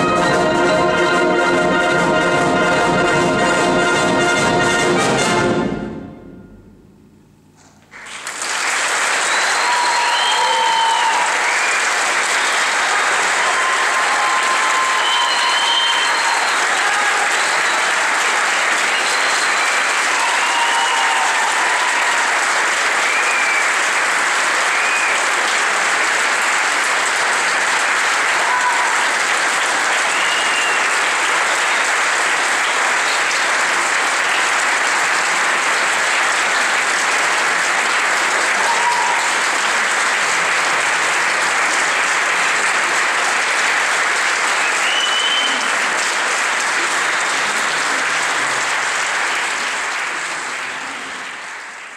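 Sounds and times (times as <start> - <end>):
audience applauding: 7.7 - 51.9
audience calls: 7.9 - 51.9.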